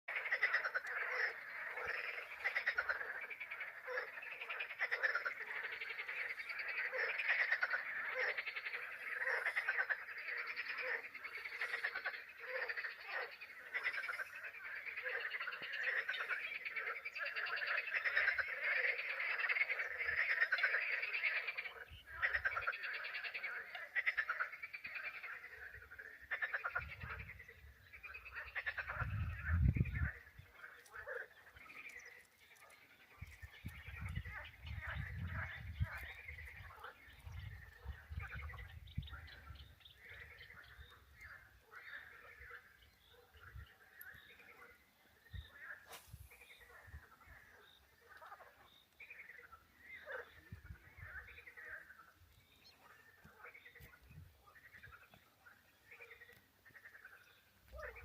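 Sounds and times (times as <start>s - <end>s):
frogs croaking: 0.1s - 58.0s.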